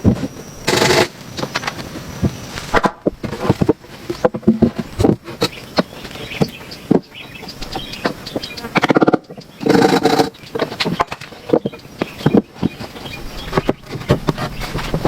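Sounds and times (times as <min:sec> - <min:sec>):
irregular knocks and clicks: 0:00.0 - 0:15.0.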